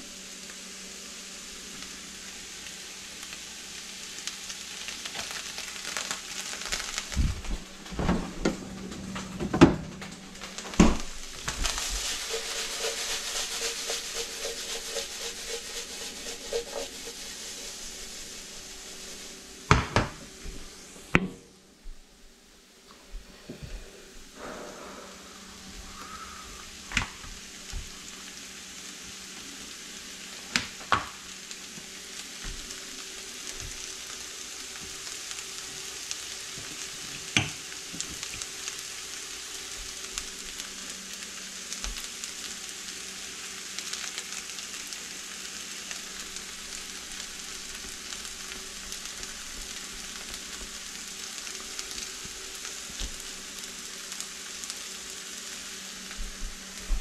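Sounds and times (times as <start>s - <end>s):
food sizzling in a frying pan: 0.0s - 21.2s, 24.2s - 57.0s.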